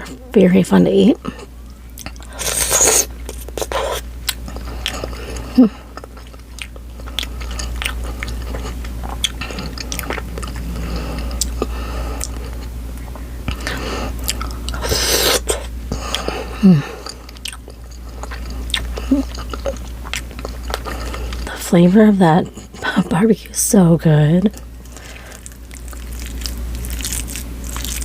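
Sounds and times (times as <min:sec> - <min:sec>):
close-miked chewing: 0:01.2 - 0:21.6, 0:24.5 - 0:28.0.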